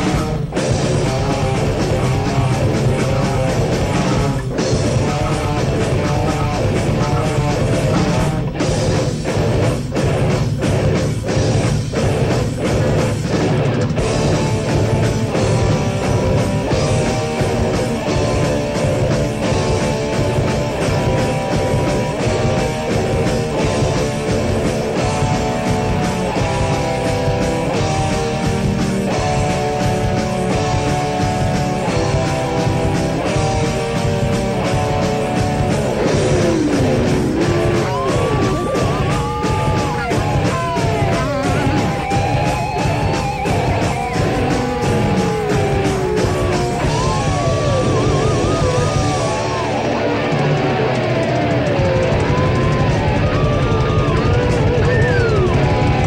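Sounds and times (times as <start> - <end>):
distorted electric guitar line: 0.0 - 56.0
heavy metal band playing: 0.0 - 56.0.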